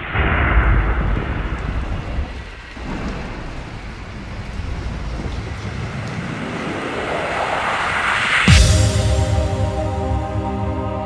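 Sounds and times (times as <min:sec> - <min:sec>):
low rumble of thunder: 0:00.0 - 0:09.8
steady hiss of rain: 0:00.0 - 0:10.4.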